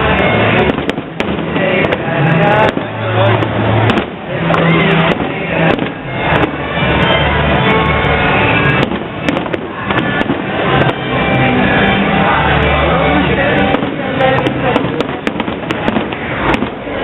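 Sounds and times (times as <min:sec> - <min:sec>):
fireworks popping and crackling: 0:00.0 - 0:07.2, 0:08.2 - 0:11.5, 0:13.4 - 0:17.0
music playing: 0:00.0 - 0:17.0.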